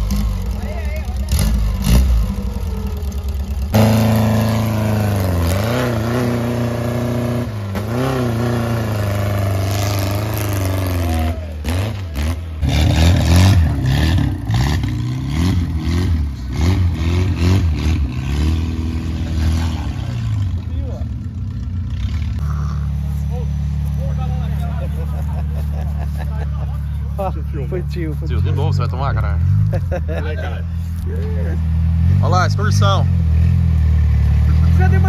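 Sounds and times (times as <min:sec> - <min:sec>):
buggy engine revving: 0:00.0 - 0:35.0.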